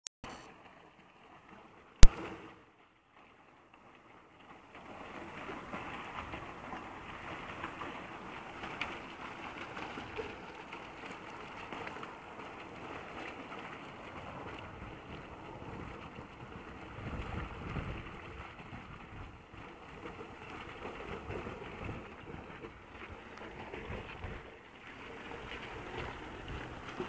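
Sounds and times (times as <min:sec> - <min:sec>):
fountain water splashing into basin: 0:04.5 - 0:27.0.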